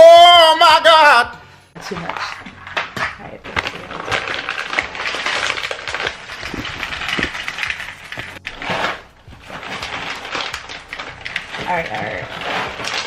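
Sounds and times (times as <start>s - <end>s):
dry food rattling into a bowl: 2.1s - 13.0s.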